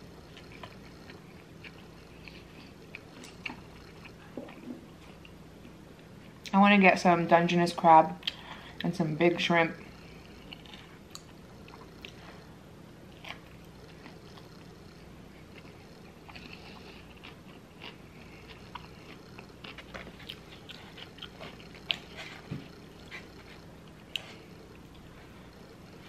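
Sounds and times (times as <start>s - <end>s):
chewing and crunching: 0.0s - 6.6s, 9.8s - 26.0s.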